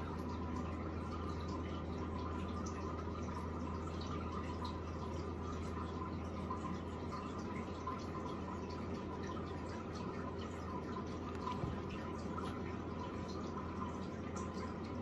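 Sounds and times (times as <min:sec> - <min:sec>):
water dripping: 0:00.0 - 0:15.0
water trickling: 0:00.0 - 0:15.0.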